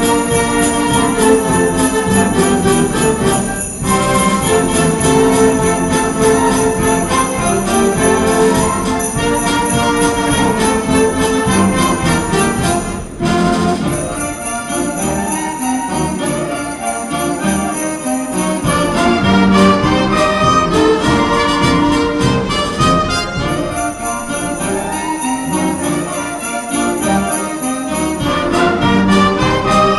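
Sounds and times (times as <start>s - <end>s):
concert band playing: 0.0s - 29.9s
flutes and clarinets: 0.0s - 29.9s
sleigh bells jingling: 0.0s - 29.9s.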